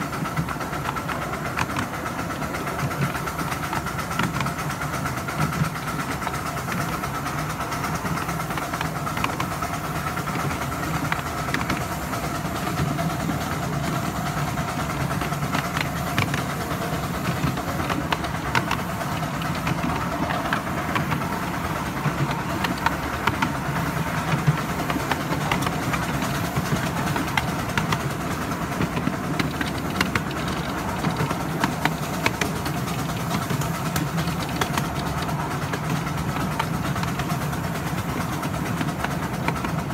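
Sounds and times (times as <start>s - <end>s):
miniature train wheels rumbling on rail: 0.0s - 39.9s
sharp rail clicks: 0.0s - 39.9s.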